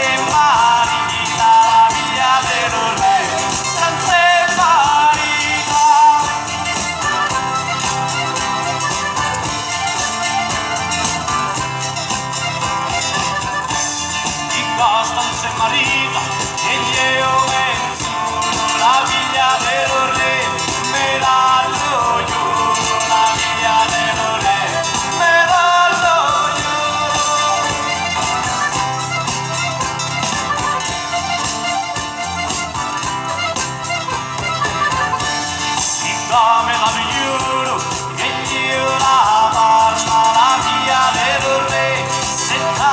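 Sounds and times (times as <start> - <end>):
accordion: 0.0 - 42.9
acoustic guitars: 0.0 - 42.9
bass guitar: 0.0 - 42.9
folk band playing: 0.0 - 42.9.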